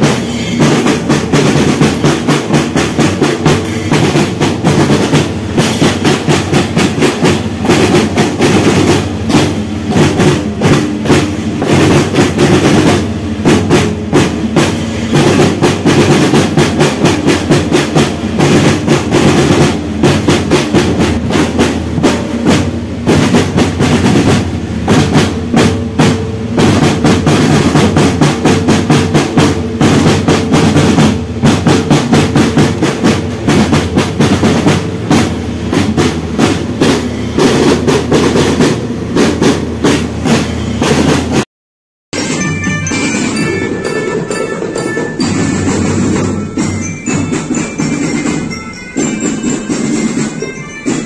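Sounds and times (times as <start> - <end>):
marching drums beating: 0.0 - 41.4, 42.2 - 51.0.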